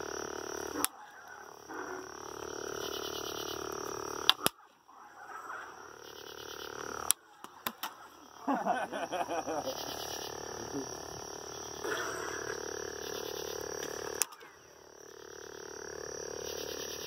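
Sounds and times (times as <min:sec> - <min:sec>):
frogs and insects trilling: 0:00.0 - 0:17.0.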